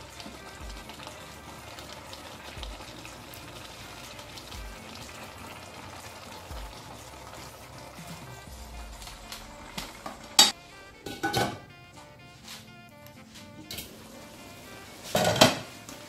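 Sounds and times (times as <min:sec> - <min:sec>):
soup sizzling in a pot: 0:00.0 - 0:13.0, 0:13.6 - 0:16.0.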